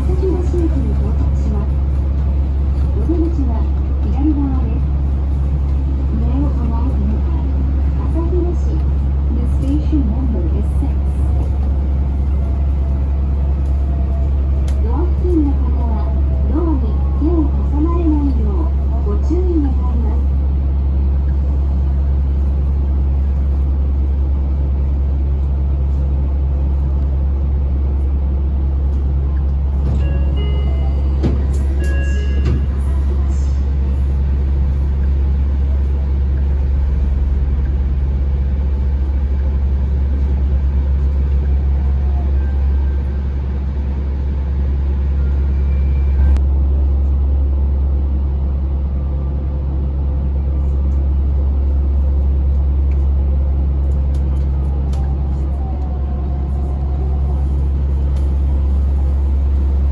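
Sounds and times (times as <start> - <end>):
monorail car running hum: 0.0 - 59.9.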